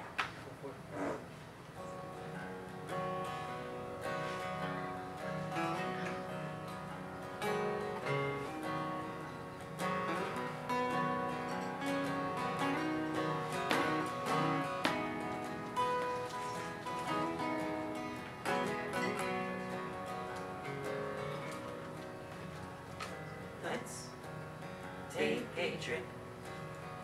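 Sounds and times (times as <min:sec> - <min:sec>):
acoustic guitars strummed and picked: 0:01.0 - 0:27.0.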